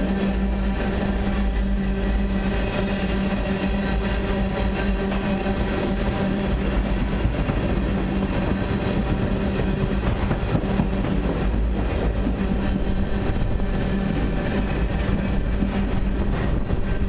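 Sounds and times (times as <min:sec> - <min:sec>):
constant low hum: 0:00.0 - 0:17.0
train wheels rumbling on rails: 0:00.0 - 0:17.0.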